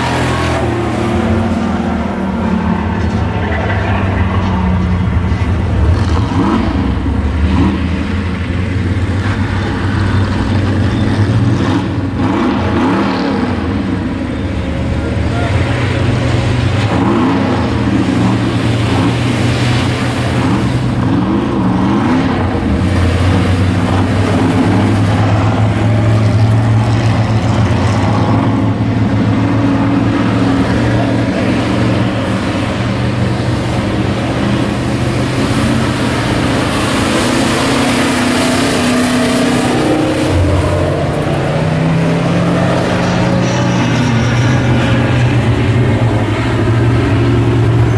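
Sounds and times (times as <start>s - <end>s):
race truck engines revving: 0.0s - 47.9s.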